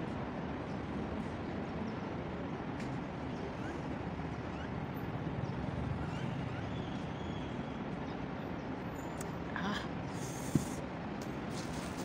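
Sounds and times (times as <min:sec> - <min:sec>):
city background rumble: 0:00.0 - 0:12.0.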